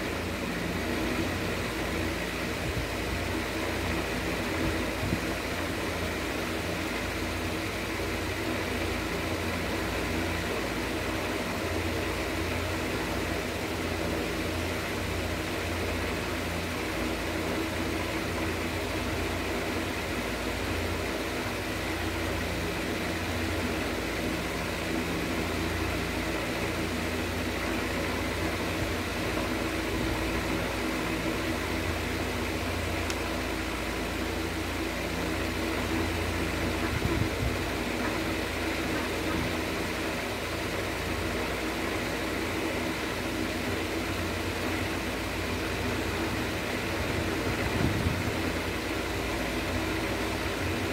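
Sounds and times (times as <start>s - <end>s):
mechanical hum: 0.0s - 50.9s.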